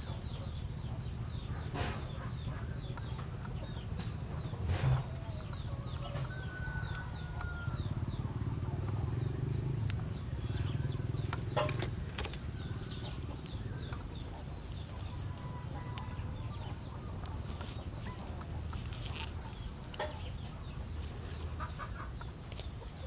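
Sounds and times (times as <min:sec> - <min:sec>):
chickens clucking: 0:00.0 - 0:23.0
small birds chirping: 0:00.0 - 0:23.0.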